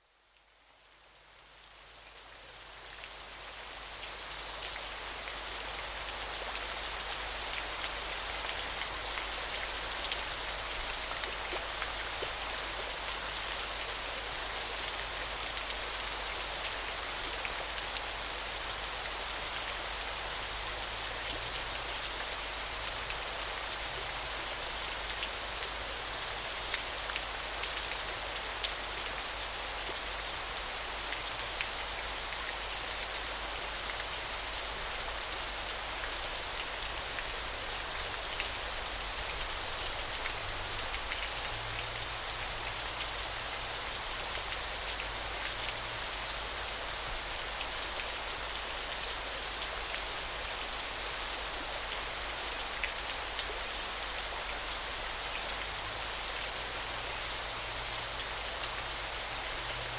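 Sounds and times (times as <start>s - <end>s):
river water running: 3.1s - 59.9s.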